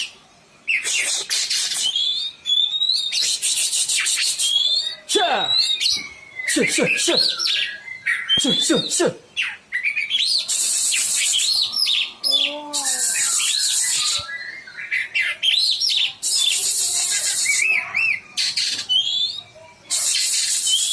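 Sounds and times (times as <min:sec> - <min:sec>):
bird whistled song: 0:00.0 - 0:20.9.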